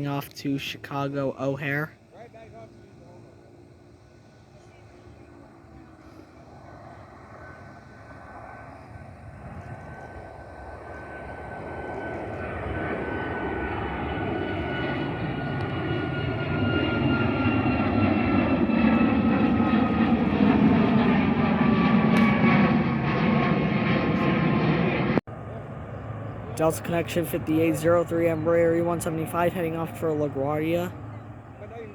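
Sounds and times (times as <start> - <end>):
jet engines at takeoff: 0.0 - 31.9.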